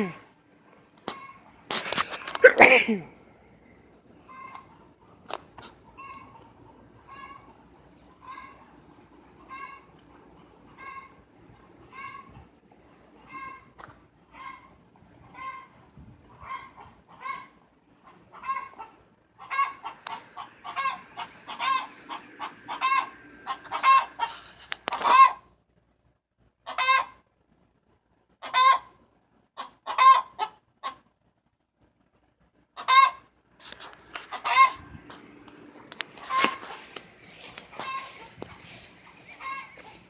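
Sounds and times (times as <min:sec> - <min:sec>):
hens clucking and squawking: 0:00.0 - 0:25.5, 0:26.6 - 0:27.2, 0:28.3 - 0:31.1, 0:32.7 - 0:40.0.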